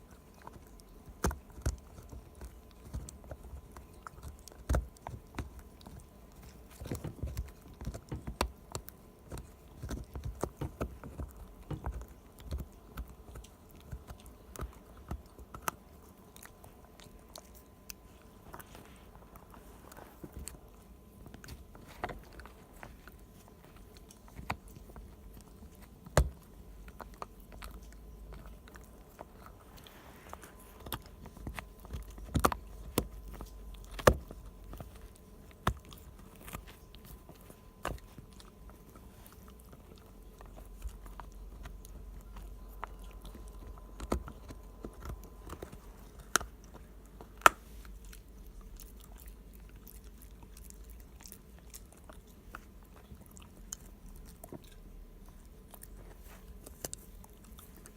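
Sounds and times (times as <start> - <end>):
dog chewing a hard chew: 0.0 - 57.9.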